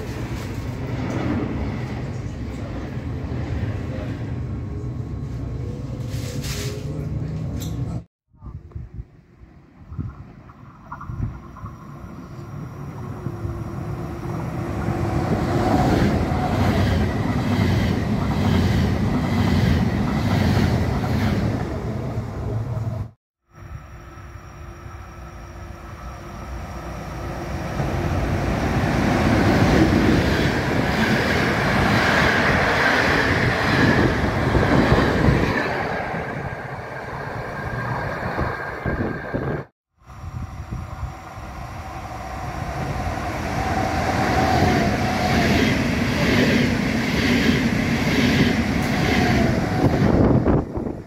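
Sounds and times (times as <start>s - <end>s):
train passing: 0.0s - 8.0s, 9.2s - 51.0s.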